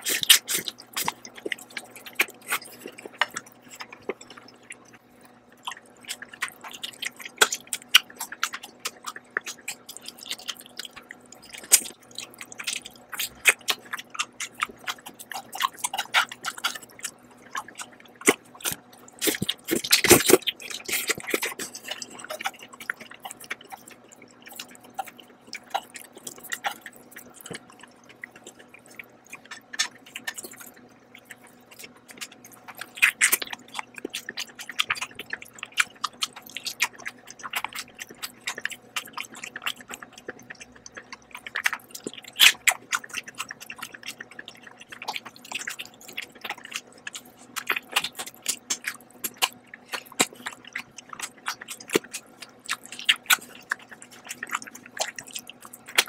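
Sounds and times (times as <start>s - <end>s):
noodle slurp: 0.0s - 5.0s, 5.6s - 56.0s
wet chewing and mouth clicks: 0.0s - 56.0s.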